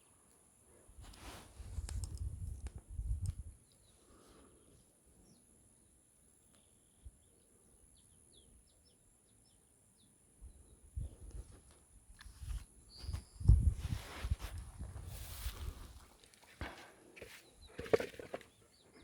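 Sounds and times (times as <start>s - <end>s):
small birds chirping: 0.0s - 14.4s, 15.4s - 19.0s.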